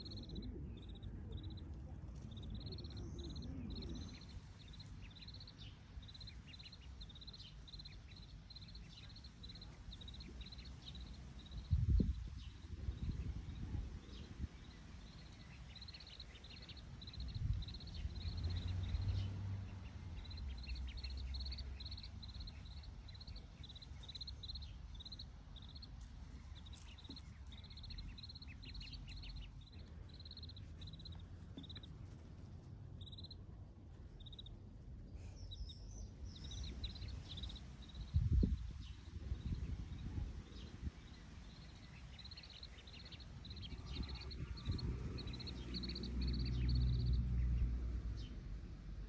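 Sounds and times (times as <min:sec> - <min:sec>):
ducklings peeping: 0:00.0 - 0:48.8
low rumble: 0:00.0 - 0:49.0.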